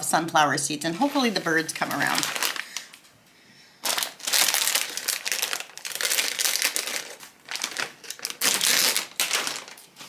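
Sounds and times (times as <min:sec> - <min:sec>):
thin plastic crinkling: 0:00.0 - 0:03.2, 0:03.8 - 0:10.0.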